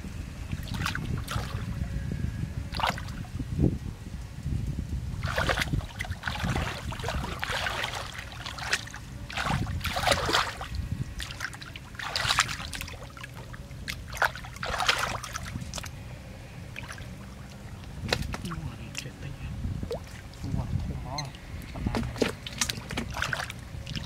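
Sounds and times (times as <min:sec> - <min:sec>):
low steady rumble: 0:00.0 - 0:24.0
muddy water sloshing and splashing: 0:00.4 - 0:02.0, 0:02.7 - 0:03.4, 0:05.0 - 0:24.0.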